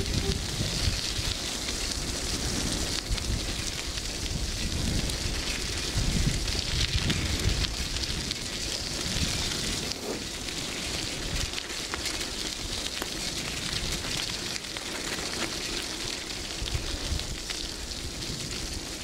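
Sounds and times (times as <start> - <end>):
gravel crunching: 0.0 - 19.0
wind rumbling on microphone: 0.0 - 19.0.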